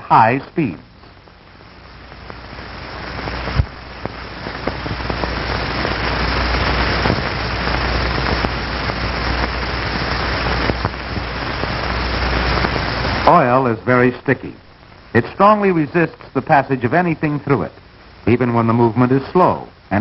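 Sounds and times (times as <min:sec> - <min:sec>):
crackles and clicks: 0:00.0 - 0:20.0
film soundtrack hiss: 0:00.0 - 0:20.0.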